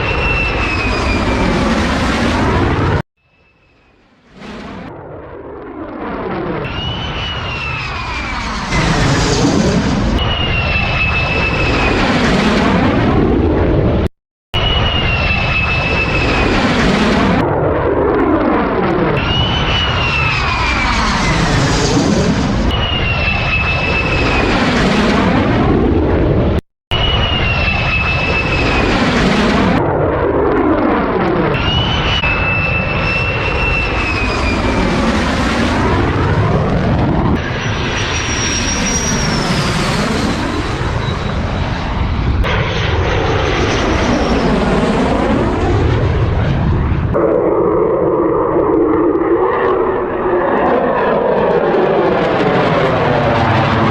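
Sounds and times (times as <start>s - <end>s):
fighter jet passing over: 0.0s - 53.9s.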